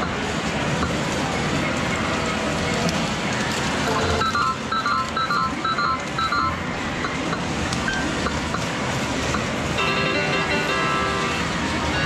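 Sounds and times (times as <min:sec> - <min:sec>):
busy arcade din: 0:00.0 - 0:12.0.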